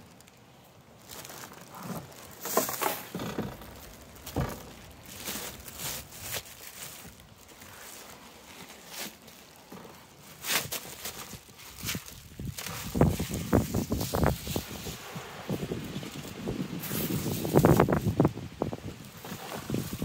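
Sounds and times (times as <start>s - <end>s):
plastic bag crinkling and rustling: 0.0s - 20.0s.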